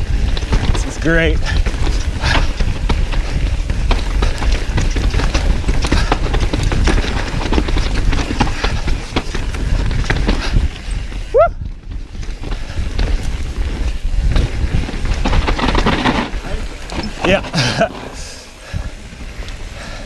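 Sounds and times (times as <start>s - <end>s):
bike rattling and knocking: 0.0s - 20.0s
bike tyres rolling over rocks: 0.0s - 20.0s
wind and ground rumble: 0.0s - 20.0s.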